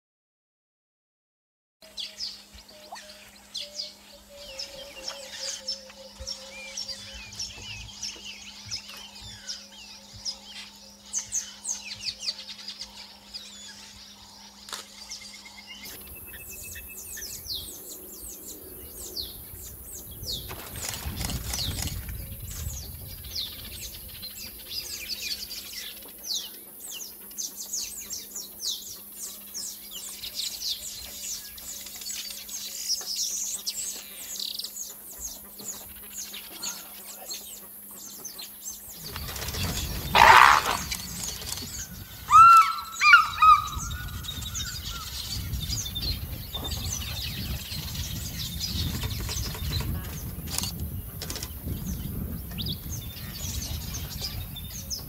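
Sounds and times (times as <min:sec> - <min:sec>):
steady low hum: 0:01.8 - 0:55.0
wild birds chirping: 0:01.8 - 0:55.0.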